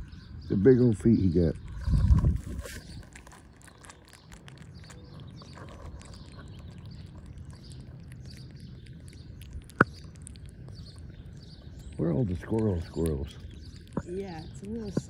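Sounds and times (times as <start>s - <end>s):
squirrel chewing fruit: 0.0s - 15.0s.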